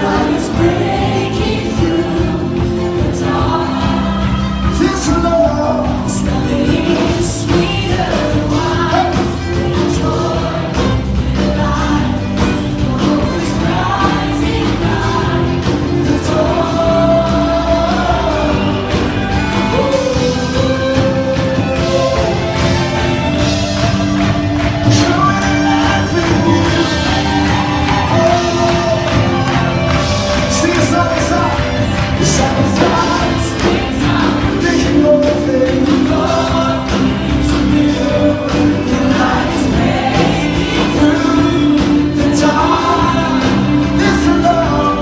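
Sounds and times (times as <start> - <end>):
singers holding long notes: 0.0 - 45.0
worship band playing: 0.0 - 45.0.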